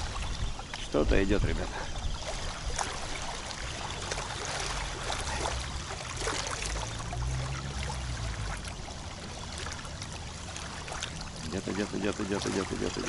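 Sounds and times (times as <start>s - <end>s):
water splashing and lapping: 0.0s - 13.0s
wind buffeting microphone: 0.0s - 13.0s.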